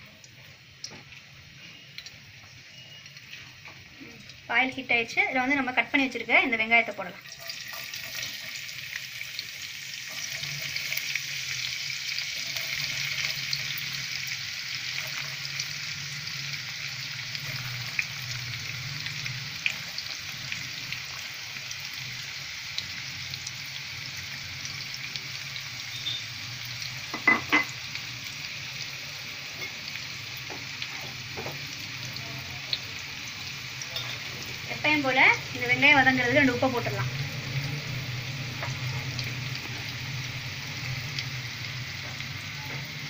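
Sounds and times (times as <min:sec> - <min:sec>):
onions sizzling in oil: 0:00.0 - 0:43.0.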